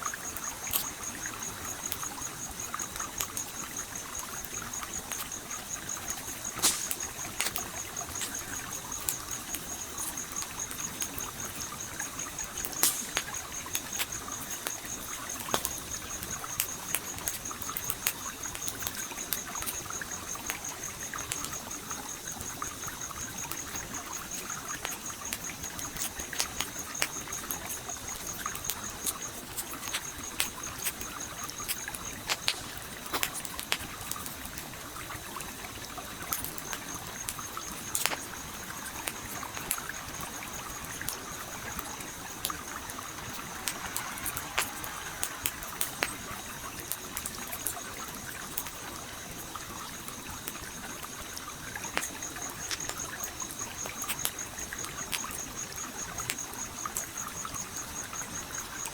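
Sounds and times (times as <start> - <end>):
campfire crackling and popping: 0.0 - 58.9
stream flowing: 0.0 - 58.9.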